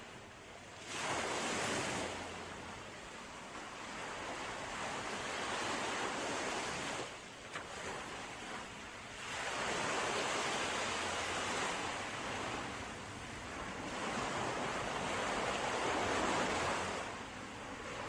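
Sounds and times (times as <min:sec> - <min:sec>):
sea waves breaking on shore: 0:00.0 - 0:18.0.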